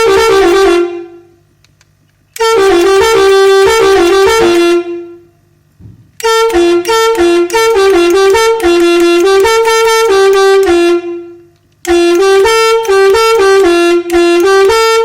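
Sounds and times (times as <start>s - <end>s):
bus air horn melody: 0.0s - 1.4s, 2.4s - 5.4s, 6.2s - 15.0s.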